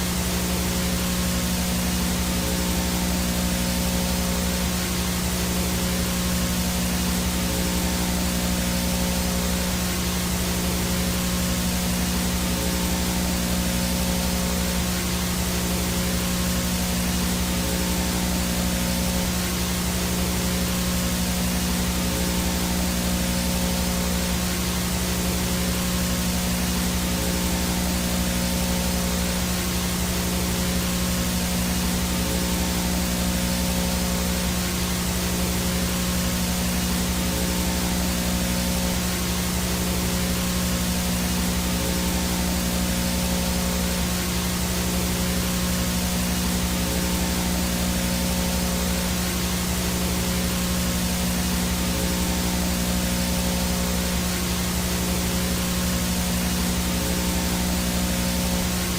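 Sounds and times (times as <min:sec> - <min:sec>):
low electrical buzz: 0:00.0 - 0:58.9
static hiss: 0:00.0 - 0:58.9.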